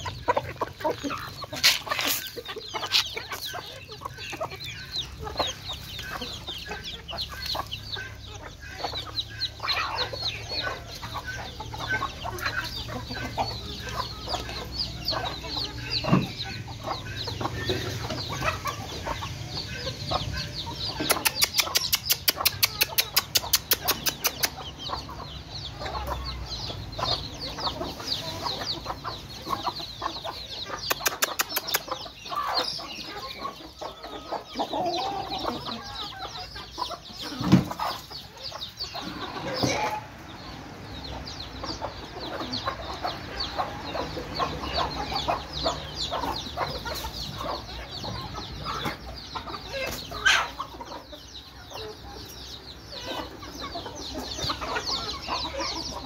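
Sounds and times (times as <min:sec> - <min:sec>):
chicks peeping: 0:00.0 - 0:56.0
hens clucking: 0:00.0 - 0:56.0.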